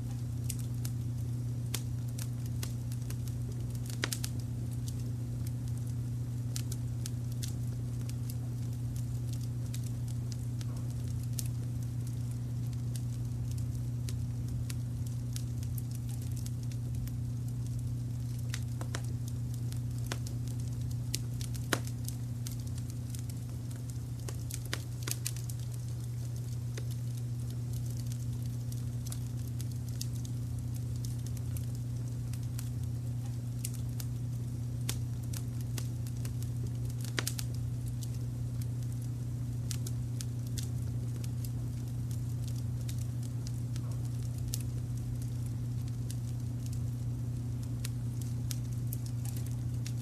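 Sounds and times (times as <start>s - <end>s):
wood fire crackling and popping: 0.0s - 50.0s.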